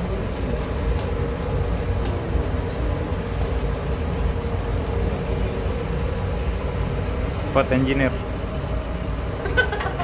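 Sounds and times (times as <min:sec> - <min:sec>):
ship machinery rumble: 0:00.0 - 0:10.0
ventilation hum: 0:00.0 - 0:10.0.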